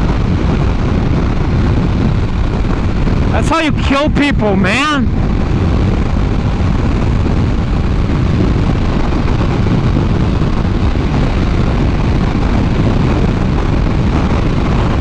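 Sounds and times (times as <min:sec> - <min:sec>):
motorcycle engine: 0:00.0 - 0:15.0
road noise: 0:00.0 - 0:15.0
wind rushing on microphone: 0:00.0 - 0:15.0.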